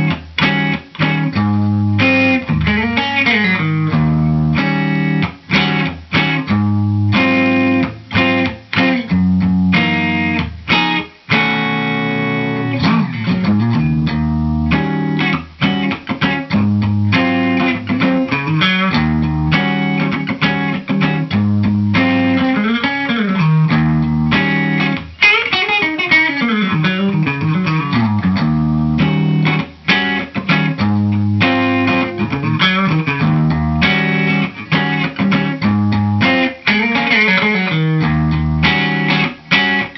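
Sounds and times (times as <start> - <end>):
clean electric guitar: 0.0 - 39.9.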